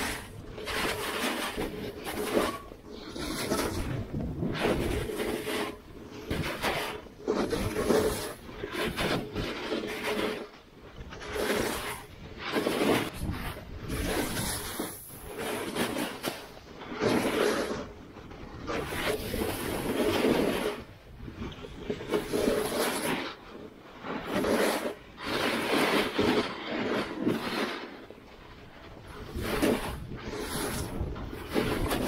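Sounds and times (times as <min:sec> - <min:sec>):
skis rushing down snow: 0:00.0 - 0:32.0.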